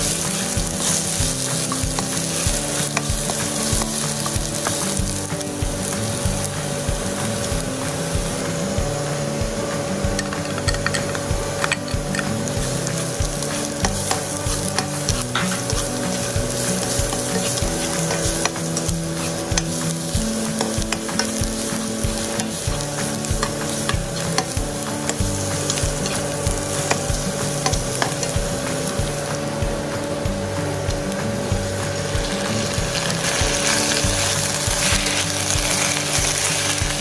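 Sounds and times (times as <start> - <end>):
spatula clicking and scraping pan: 0.0 - 8.5, 10.0 - 29.5, 30.9 - 37.0
vegetables sizzling in frying pan: 0.0 - 37.0.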